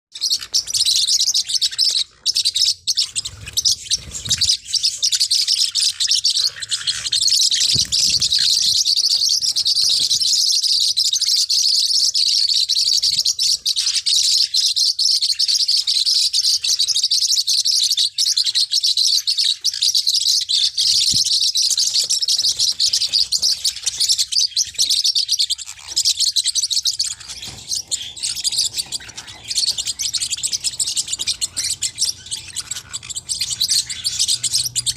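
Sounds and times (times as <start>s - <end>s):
parrotlet chirping: 0.1s - 34.9s.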